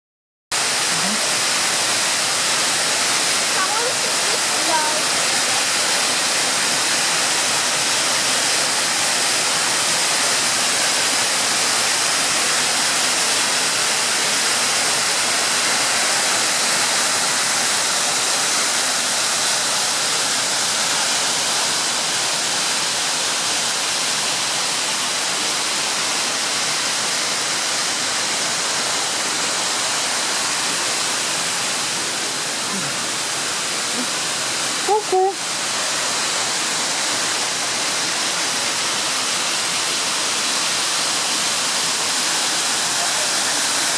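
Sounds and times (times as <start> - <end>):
waterfall rushing over rocks: 0.5 - 43.9.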